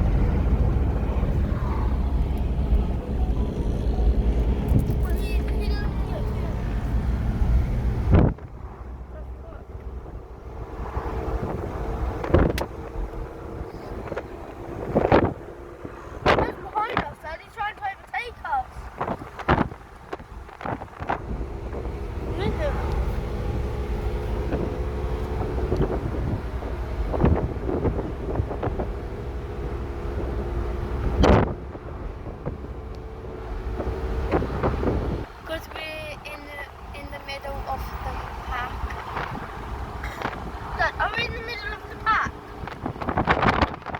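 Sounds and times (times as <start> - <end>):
small engine whine: 0.0 - 43.9
wind buffeting microphone: 0.0 - 43.9.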